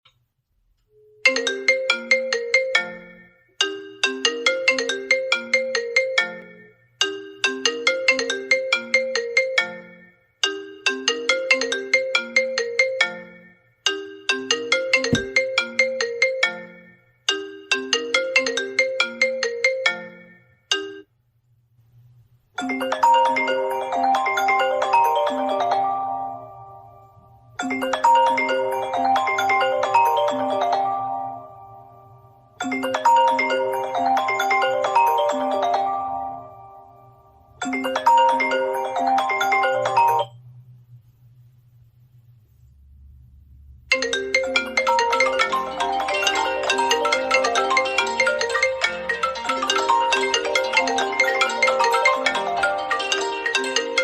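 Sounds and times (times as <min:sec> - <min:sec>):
phone ringtone melody: 0:01.0 - 0:21.1, 0:22.6 - 0:40.4, 0:43.9 - 0:54.0.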